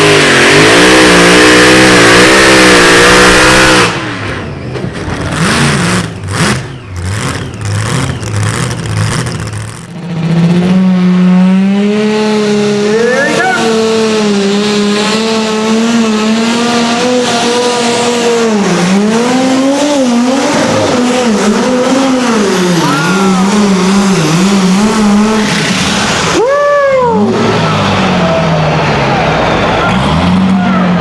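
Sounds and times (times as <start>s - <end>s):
tractor engine at high revs: 0.0s - 31.0s
rising and falling whine: 5.8s - 31.0s.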